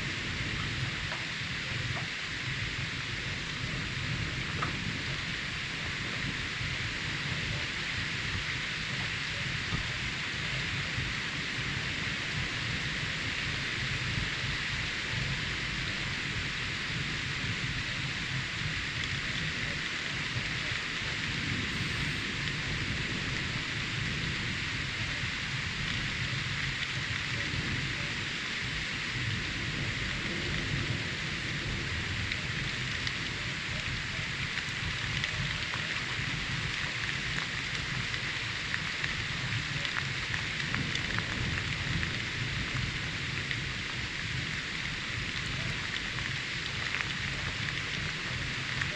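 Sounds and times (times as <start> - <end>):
low thunder rumble: 0.0 - 48.9
steady rain: 0.0 - 48.9.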